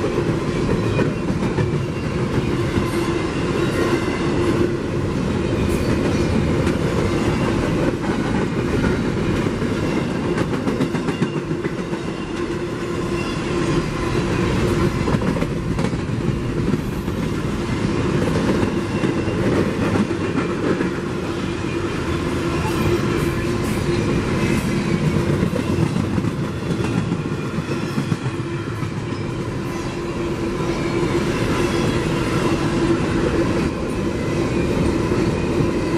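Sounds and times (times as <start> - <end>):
train wheels clattering on rail: 0.0 - 35.9.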